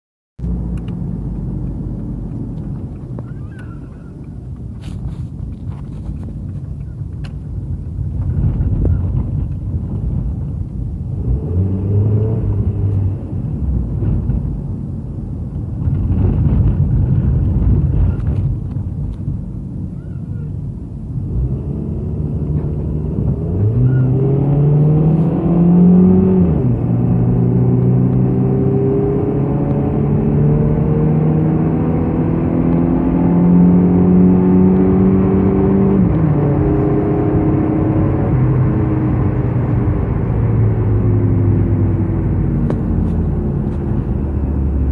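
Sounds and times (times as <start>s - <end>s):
car engine and road rumble: 0.4s - 44.9s.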